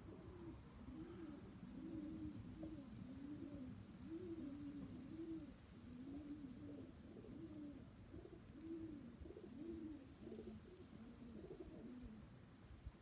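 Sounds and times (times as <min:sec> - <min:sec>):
pigeons cooing: 0:00.0 - 0:12.3.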